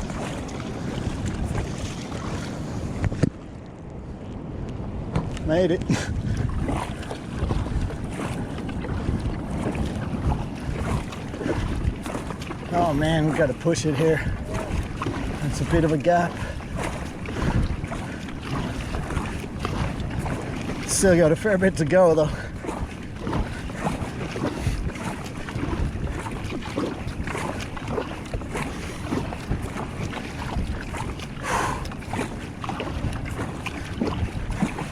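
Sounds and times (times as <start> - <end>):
water splashing around kayak: 0.0 - 34.9
wind buffeting microphone: 0.0 - 34.9.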